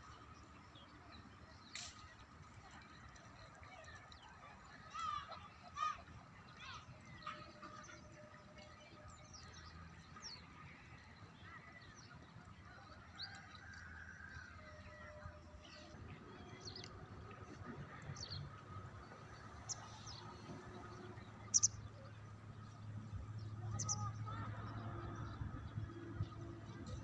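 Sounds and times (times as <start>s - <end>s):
birds chirping: 0.0s - 27.0s
faint outdoor background: 0.0s - 27.0s.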